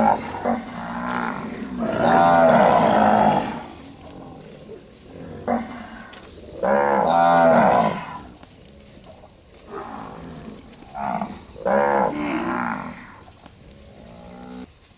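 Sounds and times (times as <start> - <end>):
cattle mooing: 0.0 - 9.1, 9.7 - 14.7.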